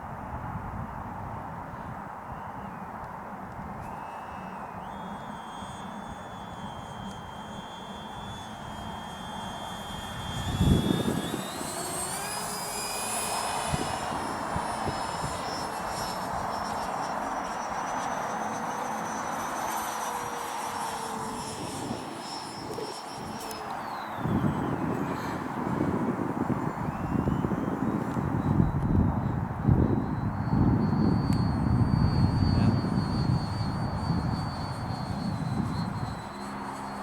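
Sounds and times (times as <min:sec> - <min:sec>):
wind buffeting microphone: 0:00.0 - 0:18.4, 0:19.1 - 0:37.0
electric ducted fans whining: 0:00.0 - 0:37.0.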